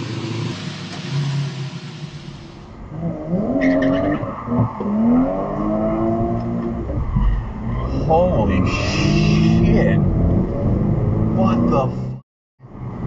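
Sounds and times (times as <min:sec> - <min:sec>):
car engine accelerating: 0:00.0 - 0:12.2
car engine revving: 0:00.0 - 0:12.2.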